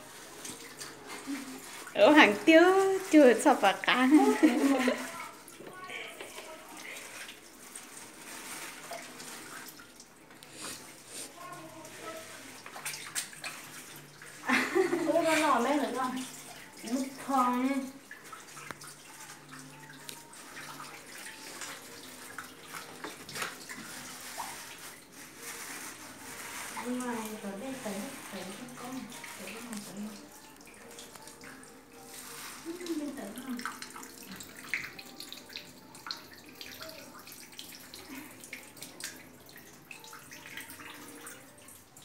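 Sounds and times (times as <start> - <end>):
water running and splashing: 0.0 - 42.0.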